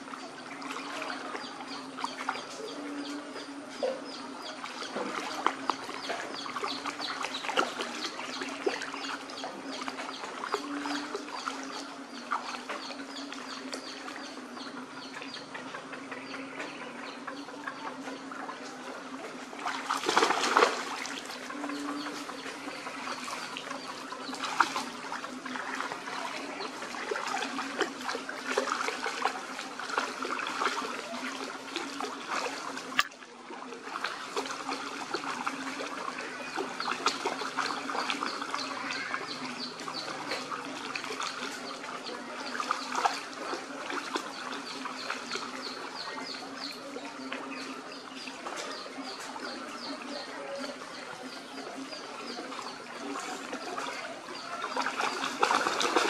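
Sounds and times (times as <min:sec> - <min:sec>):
dogs splashing through water: 0:00.0 - 0:56.0.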